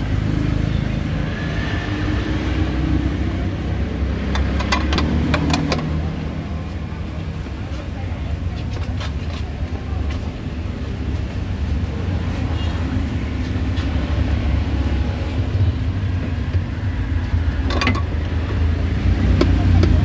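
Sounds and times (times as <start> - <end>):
low rumble of passing vehicles: 0.0 - 20.0.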